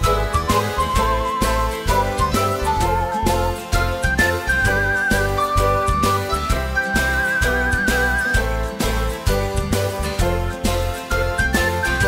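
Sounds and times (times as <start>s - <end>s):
upbeat music with whistle-like melody: 0.0s - 12.0s.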